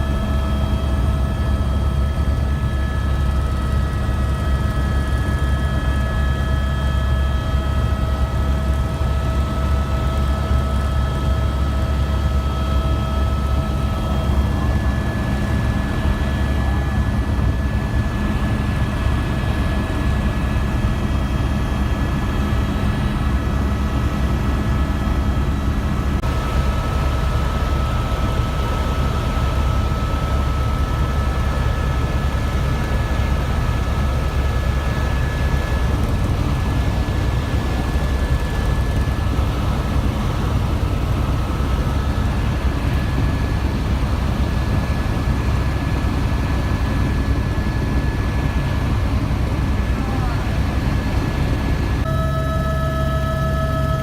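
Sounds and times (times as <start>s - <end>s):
helicopter engine and rotor rumble: 0.0s - 54.0s
high-pitched turbine whine: 0.0s - 54.0s.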